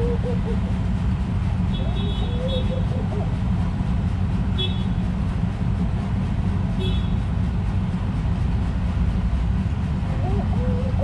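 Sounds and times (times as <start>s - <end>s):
low rumble of traffic or wind: 0.0s - 11.0s.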